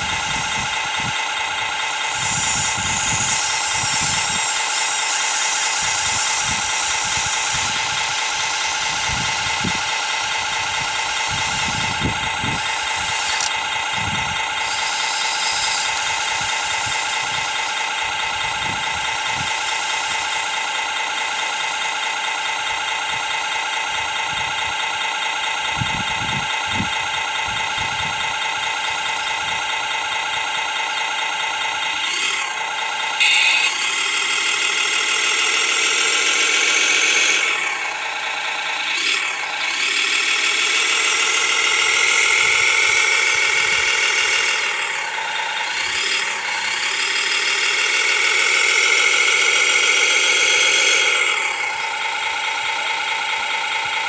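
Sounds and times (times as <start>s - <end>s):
model excavator mechanical drone: 0.0s - 54.0s.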